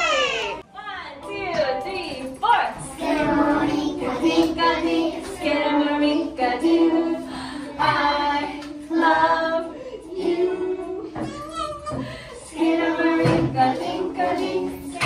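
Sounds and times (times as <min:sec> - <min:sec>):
children singing together: 0:02.8 - 0:15.0.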